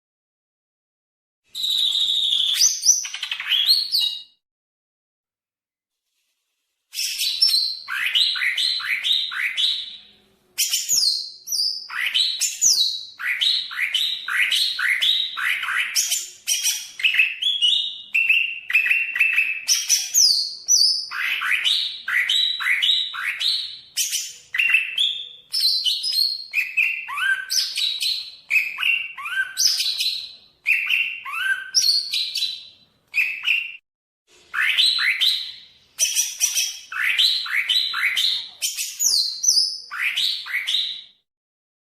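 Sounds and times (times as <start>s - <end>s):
bird singing whistled trills: 1.5s - 4.4s, 6.9s - 33.8s, 34.5s - 41.2s.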